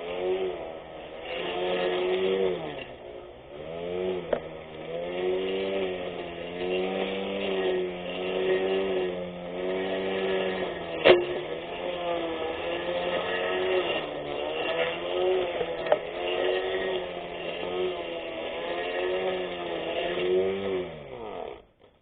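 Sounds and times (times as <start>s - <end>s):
electric grass cutter motor humming: 0.0s - 22.0s.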